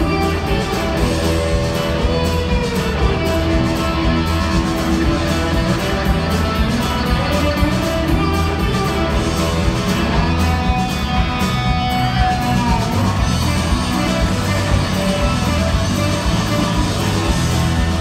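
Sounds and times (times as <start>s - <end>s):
drum kit: 0.0s - 18.0s
electric guitars: 0.0s - 18.0s.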